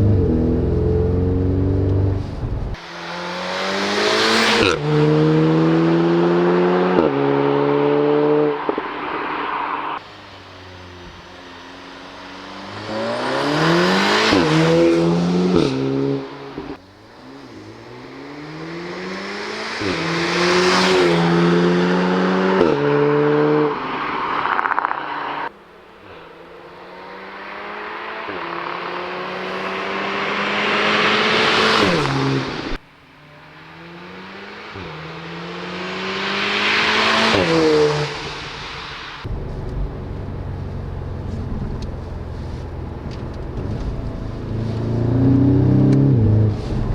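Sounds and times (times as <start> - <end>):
car engine accelerating hard: 0.0 - 46.9.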